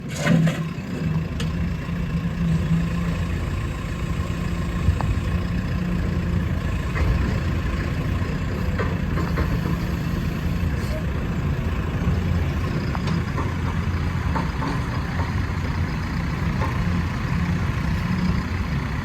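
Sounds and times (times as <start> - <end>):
diesel engine idling: 0.6 - 19.0.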